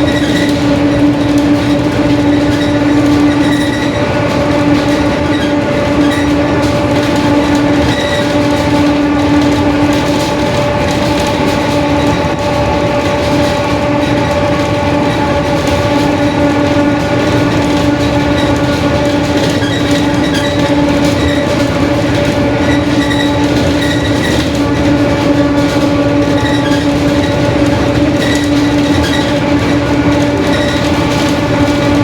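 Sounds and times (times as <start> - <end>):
bus drivetrain whine: 0.0 - 32.0
bus rumble: 0.0 - 32.0.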